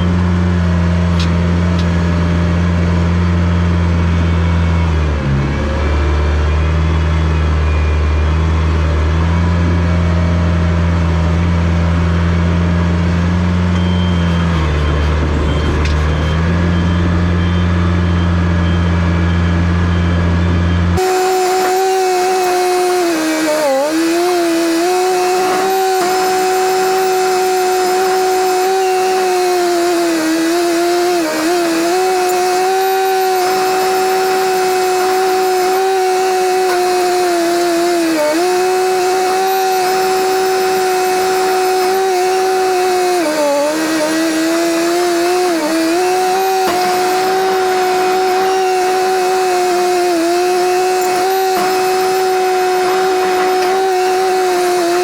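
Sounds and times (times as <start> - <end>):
bulldozer running at high revs: 0.0 - 55.0.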